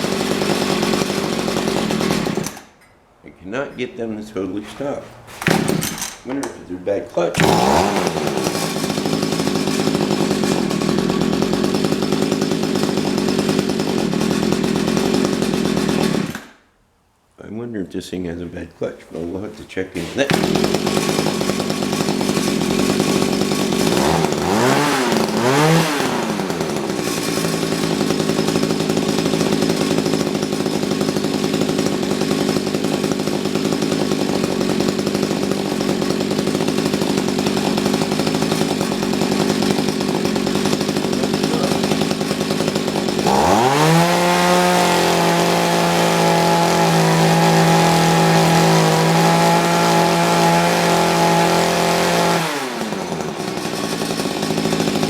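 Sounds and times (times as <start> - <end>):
two-stroke tiller engine: 0.0 - 2.7, 5.3 - 6.6, 7.3 - 16.6, 20.0 - 55.0.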